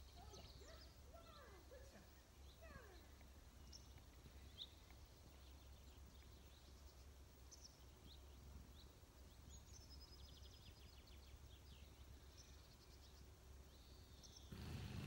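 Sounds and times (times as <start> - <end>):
faint songbirds chirping: 0.0 - 15.0.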